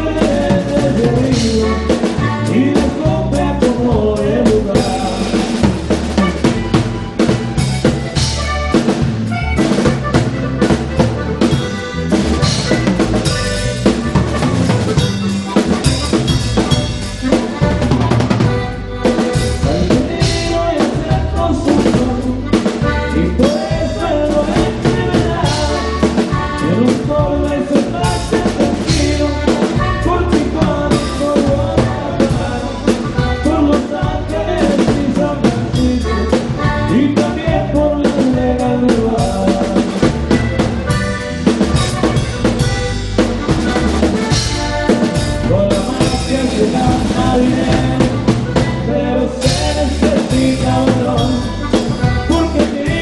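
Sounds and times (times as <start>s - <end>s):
drum kit beat: 0.0s - 53.0s
live band playing: 0.0s - 53.0s.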